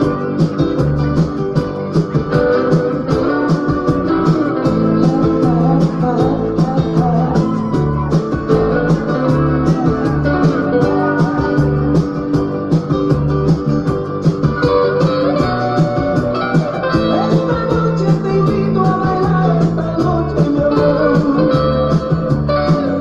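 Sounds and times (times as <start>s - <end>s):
loud guitar music with beat: 0.0s - 23.0s.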